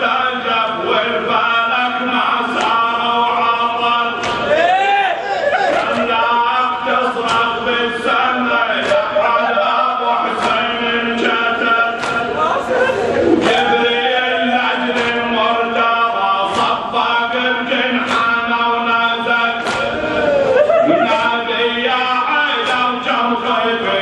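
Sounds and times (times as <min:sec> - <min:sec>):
men chanting a mourning lament: 0:00.0 - 0:24.0.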